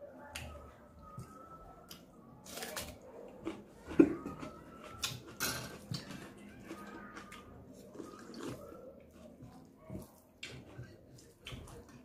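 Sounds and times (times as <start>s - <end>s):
chewing and crunching onion: 1.9s - 12.0s.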